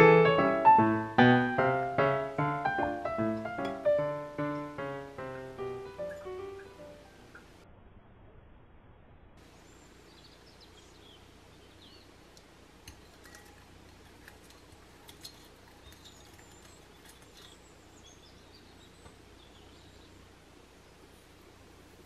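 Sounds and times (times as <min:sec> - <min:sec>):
distant birds chirping: 0:00.0 - 0:07.6, 0:09.4 - 0:22.0.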